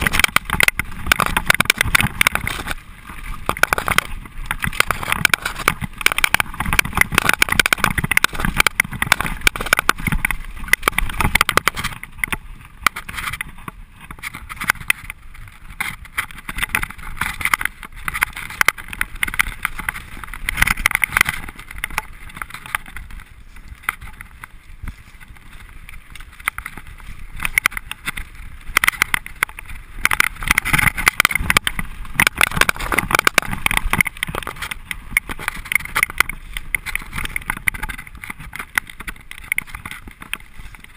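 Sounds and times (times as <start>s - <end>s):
mountain bike rattling: 0.0s - 40.9s
tyres on dirt and stones: 0.0s - 40.9s.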